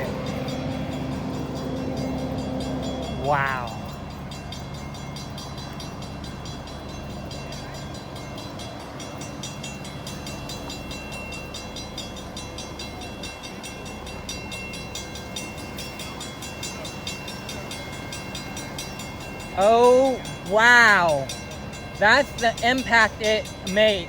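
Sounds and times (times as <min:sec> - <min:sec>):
pulsing engine drone: 0:00.0 - 0:24.0.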